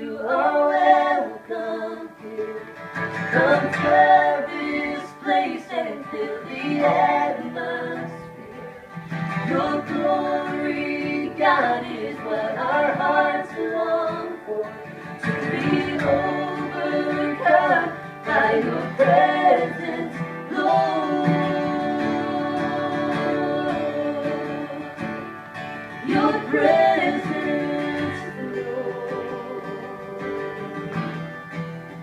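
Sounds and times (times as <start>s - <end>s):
person singing: 0.0s - 25.2s, 26.0s - 31.4s.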